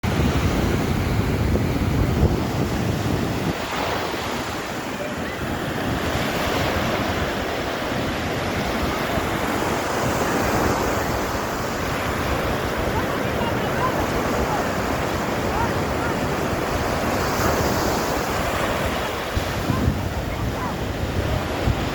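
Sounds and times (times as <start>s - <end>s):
sea surf rushing: 0.0s - 21.9s
wind rumble on microphone: 0.0s - 21.9s.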